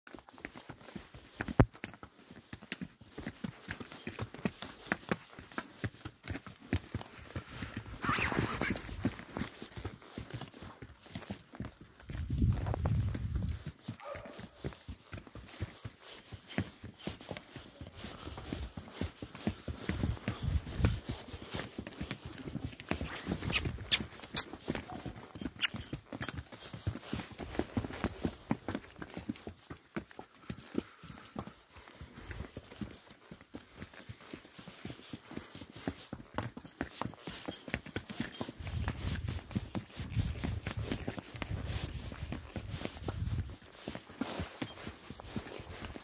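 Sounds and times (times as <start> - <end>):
hooves clip-clopping on stony trail: 0.1 - 46.0.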